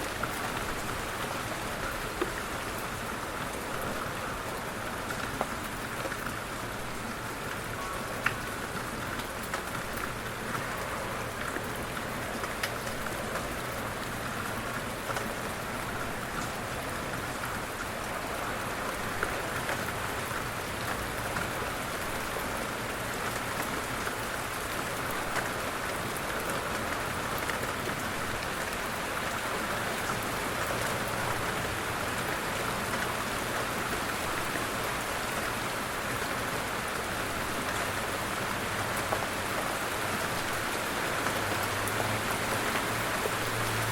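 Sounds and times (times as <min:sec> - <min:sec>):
light rain falling: 0:00.0 - 0:43.9
raindrops ticking on a surface: 0:00.0 - 0:43.9.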